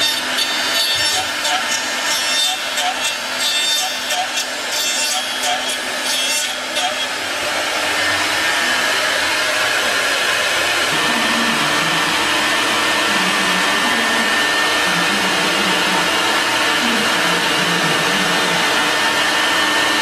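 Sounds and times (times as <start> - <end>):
machine whirring: 0.0 - 20.0.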